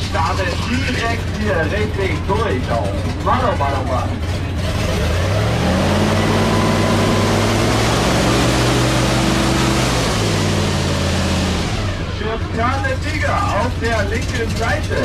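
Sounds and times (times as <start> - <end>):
bus engine pulling away: 0.0 - 15.0.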